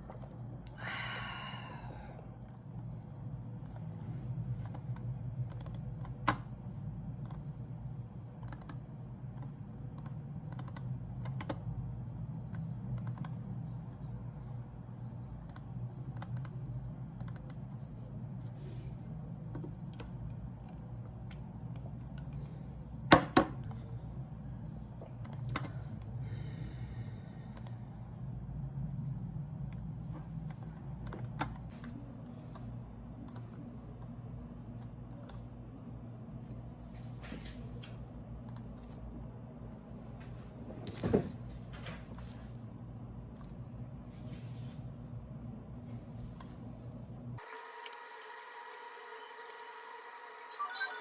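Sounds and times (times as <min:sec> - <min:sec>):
steady low hum: 0:00.0 - 0:47.4.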